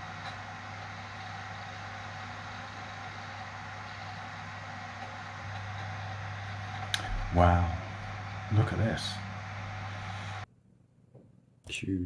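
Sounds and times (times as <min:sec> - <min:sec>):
cd drive whirring hum: 0:00.0 - 0:10.5.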